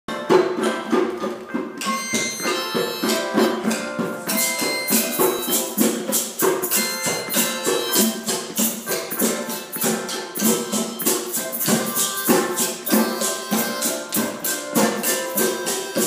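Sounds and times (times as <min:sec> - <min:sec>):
hand drums: 0:00.1 - 0:16.0
bright ringing percussion notes: 0:00.2 - 0:16.0
shakers: 0:02.9 - 0:16.0.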